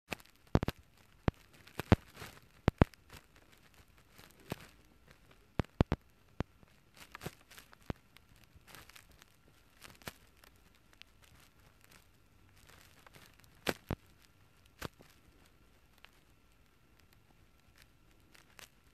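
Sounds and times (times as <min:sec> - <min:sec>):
soft rustling: 0:00.1 - 0:18.9.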